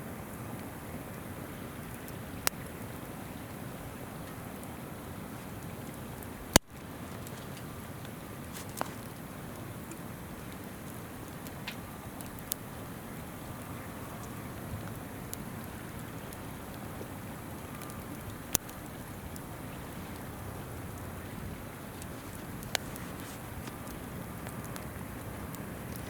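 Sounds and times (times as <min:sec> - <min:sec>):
shallow river babbling: 0:00.0 - 0:26.0
campfire wood popping: 0:00.2 - 0:26.0.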